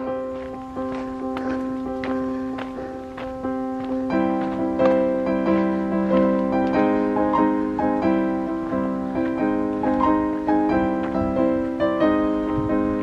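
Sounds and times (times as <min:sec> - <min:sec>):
calm piano music: 0:00.0 - 0:13.0.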